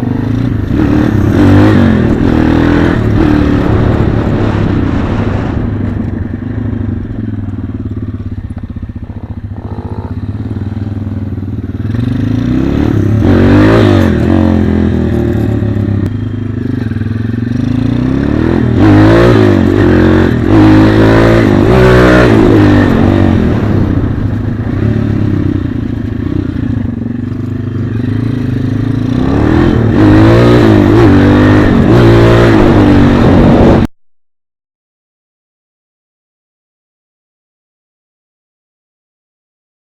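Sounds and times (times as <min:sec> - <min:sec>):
pit bike engine revving: 0:00.0 - 0:05.8, 0:07.0 - 0:33.9.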